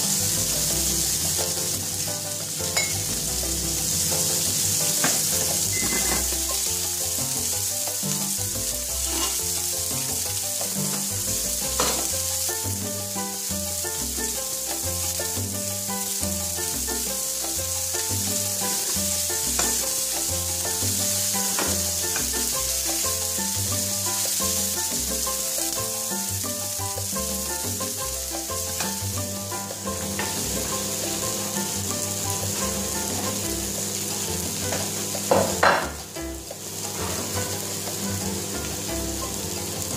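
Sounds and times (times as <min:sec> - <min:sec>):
background music: 0:00.0 - 0:39.9
food sizzling in frying pan: 0:00.0 - 0:39.9
oil popping: 0:00.0 - 0:39.9.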